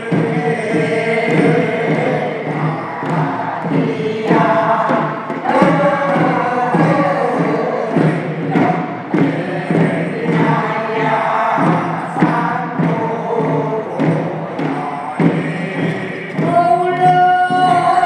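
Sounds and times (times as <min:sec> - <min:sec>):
drum beats: 0:00.0 - 0:18.0
group singing folk song: 0:00.0 - 0:18.0.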